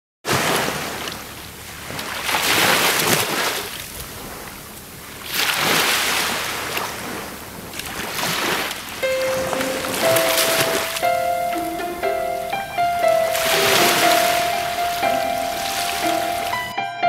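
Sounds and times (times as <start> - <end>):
sea surf breaking on beach: 0.3 - 16.7.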